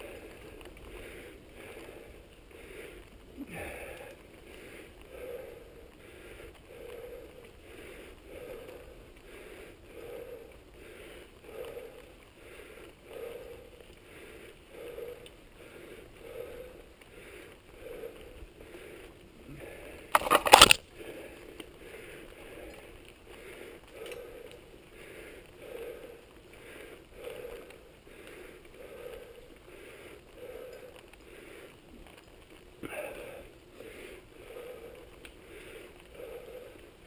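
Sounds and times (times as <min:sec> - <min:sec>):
bike tyres rolling on dirt: 0:00.0 - 0:37.0.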